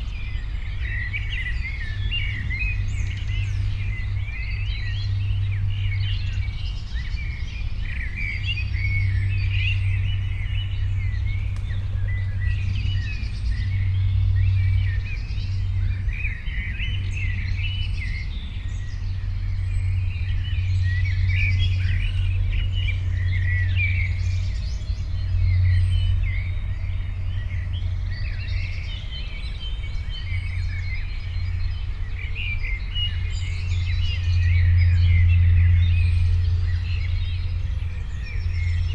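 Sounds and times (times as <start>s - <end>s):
songbirds chirping: 0.0s - 38.9s
steady low rumble: 0.0s - 38.9s.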